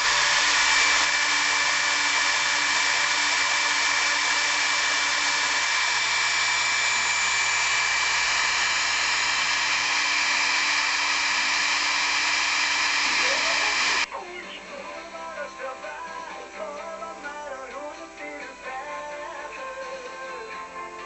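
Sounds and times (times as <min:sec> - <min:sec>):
router spindle whine milling wood: 0:00.0 - 0:21.0.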